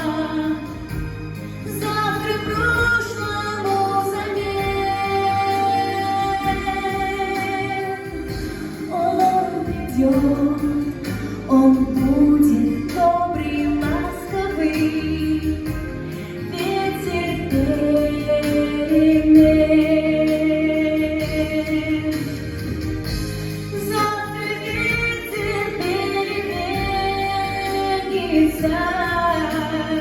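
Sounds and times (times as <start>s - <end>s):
instrumental backing music: 0.0s - 30.0s.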